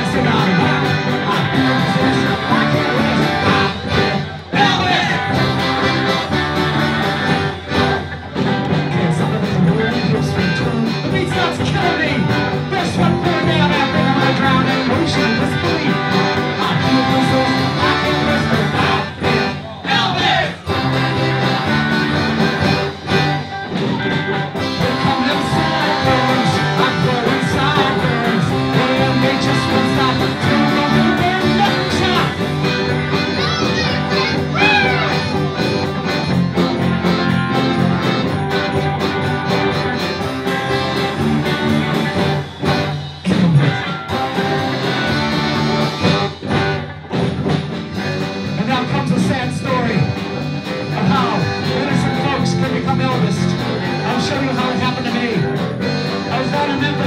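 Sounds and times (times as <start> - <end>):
polka band playing: 0.0 - 57.0.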